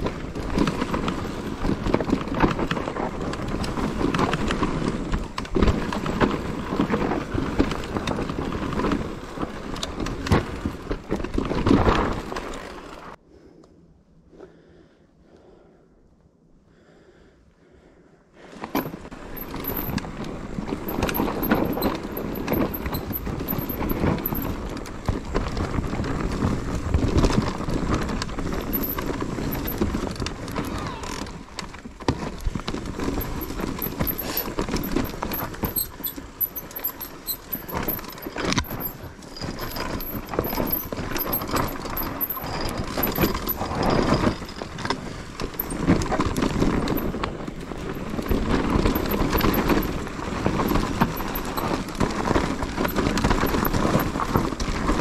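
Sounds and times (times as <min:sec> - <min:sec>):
bike frame and chain rattling: 0:00.0 - 0:13.2, 0:18.6 - 0:55.0.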